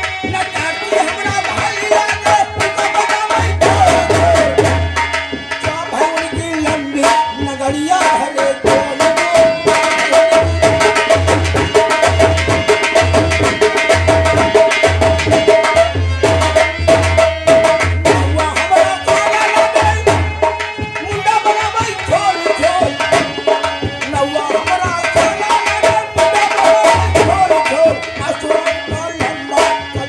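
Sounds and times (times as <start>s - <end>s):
fast hand-drum strokes: 0.0s - 30.0s.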